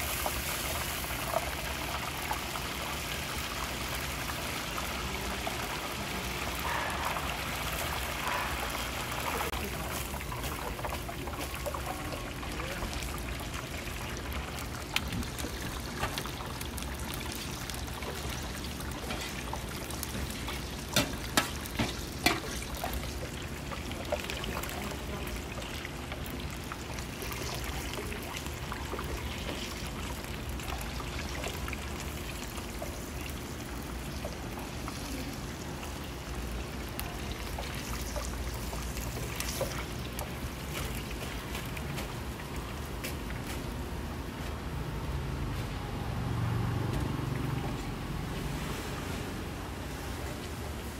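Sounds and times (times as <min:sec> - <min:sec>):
hot oil sizzling: 0:00.0 - 0:45.4.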